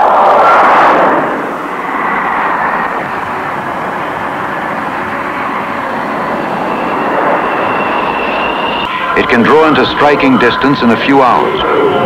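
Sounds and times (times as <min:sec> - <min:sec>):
high jet whine: 0:00.0 - 0:12.0
jet engine roar: 0:00.0 - 0:12.0.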